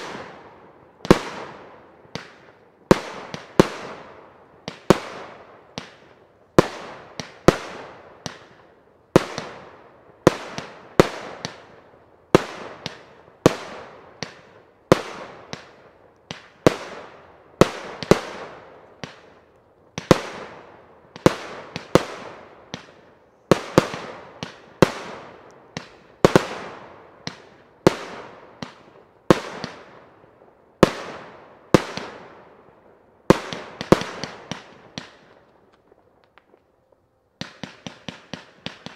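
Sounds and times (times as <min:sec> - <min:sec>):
fireworks bursting: 0:00.0 - 0:32.6, 0:33.2 - 0:36.7, 0:37.4 - 0:38.9.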